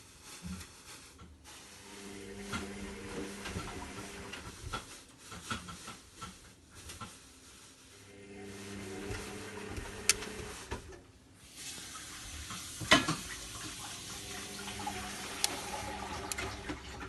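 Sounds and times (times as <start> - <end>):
washing machine filling with water: 1.4 - 6.7, 7.9 - 17.0.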